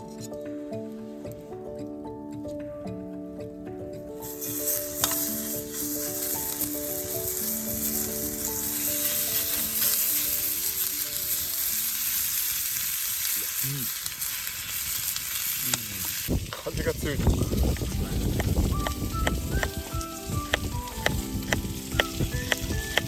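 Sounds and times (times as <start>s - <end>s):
background music: 0.0s - 13.4s, 17.0s - 23.0s
meat sizzling in a hot pan: 4.1s - 23.0s.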